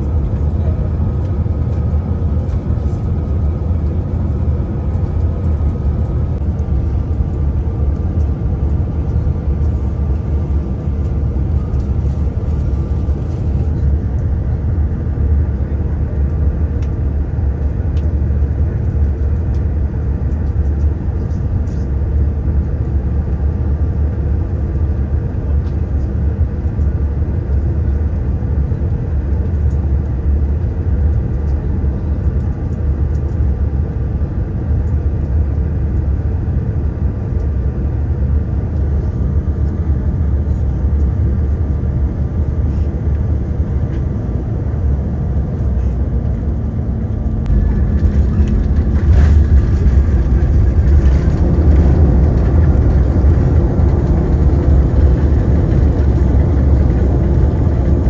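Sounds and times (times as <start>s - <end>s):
jet cabin engine and airflow roar: 0.0s - 58.0s.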